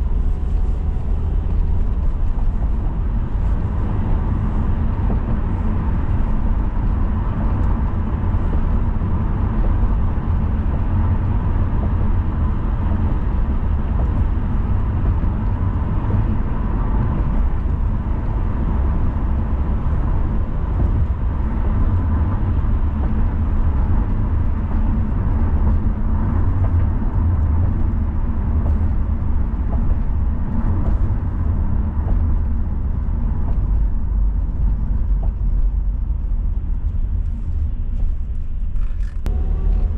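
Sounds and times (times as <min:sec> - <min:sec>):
car engine: 0:00.0 - 0:39.9
tyre and road noise: 0:00.0 - 0:39.9.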